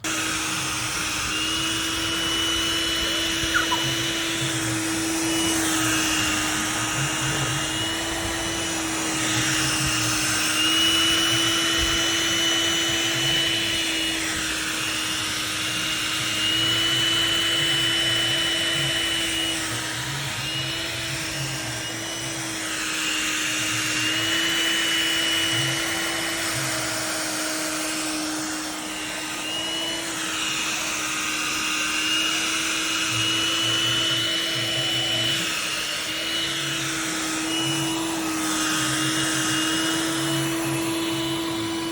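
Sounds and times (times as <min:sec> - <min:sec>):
vacuum cleaner motor whine: 0:00.0 - 0:41.9.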